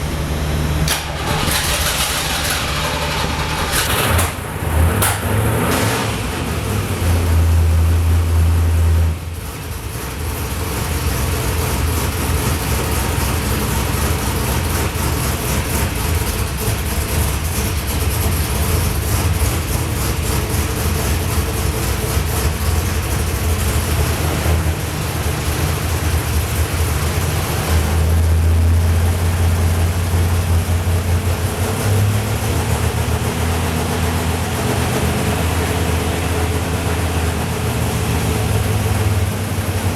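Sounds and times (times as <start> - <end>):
engine running and burping: 0.0 - 39.9.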